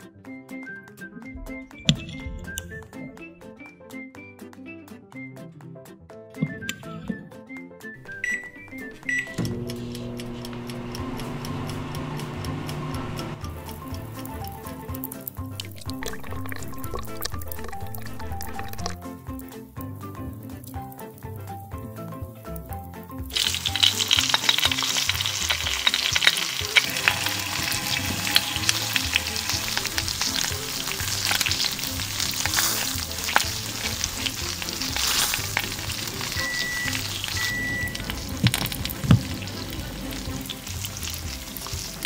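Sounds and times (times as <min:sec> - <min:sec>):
fish sizzling and popping in oil: 0:08.0 - 0:42.0.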